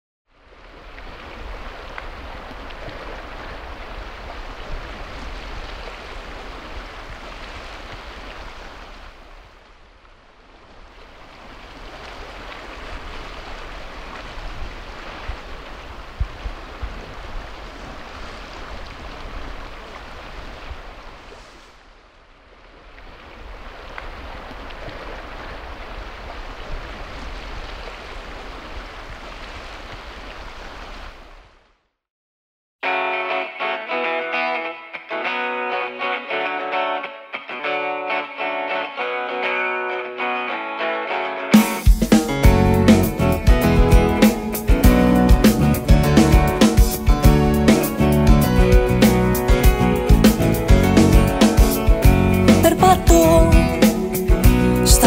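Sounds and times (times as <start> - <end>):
sea waves washing in: 0.3 - 31.7, 41.6 - 55.0.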